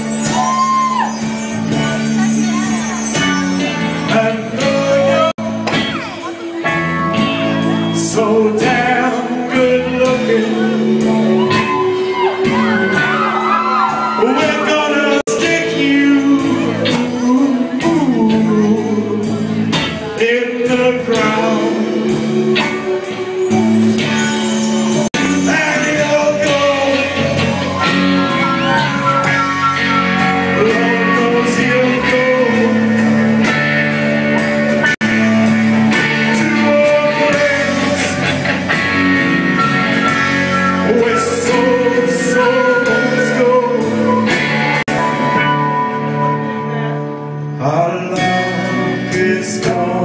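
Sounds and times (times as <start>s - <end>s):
live rock band playing: 0.0s - 50.0s.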